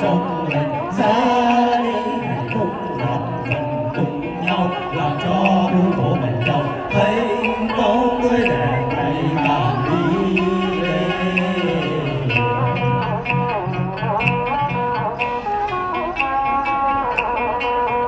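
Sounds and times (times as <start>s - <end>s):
people singing folk songs: 0.0s - 14.8s.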